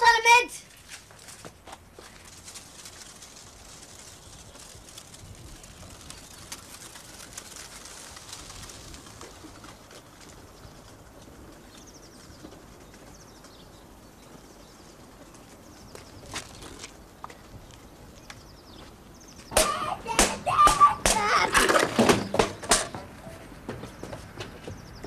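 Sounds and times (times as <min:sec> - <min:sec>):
faint birds chirping: 0:00.0 - 0:08.4, 0:09.0 - 0:25.0.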